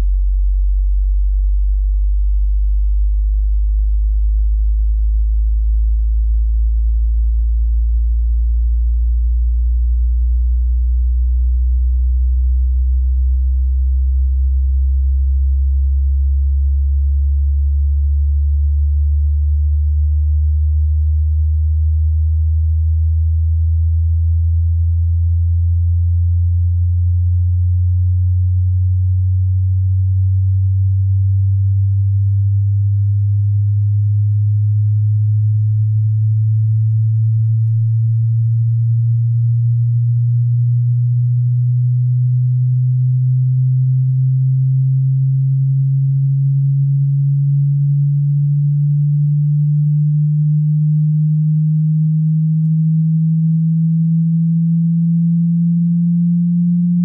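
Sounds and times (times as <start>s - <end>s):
rising sine test tone: 0.0s - 57.0s.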